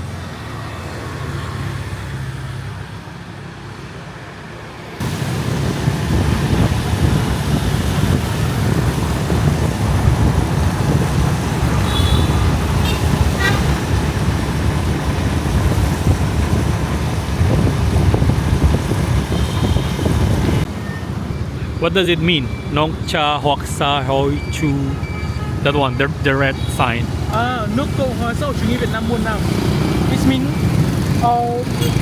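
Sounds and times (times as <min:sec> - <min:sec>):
motorbike engine and road noise: 0:00.0 - 0:32.0.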